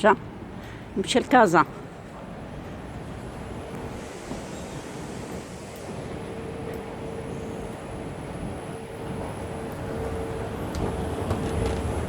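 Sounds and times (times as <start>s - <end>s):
railway station rumble and hiss: 0.0s - 12.0s.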